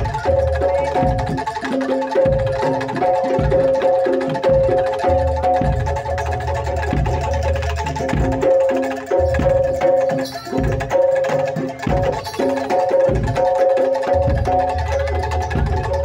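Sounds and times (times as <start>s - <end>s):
gong-chime and metallophone notes: 0.0s - 16.0s.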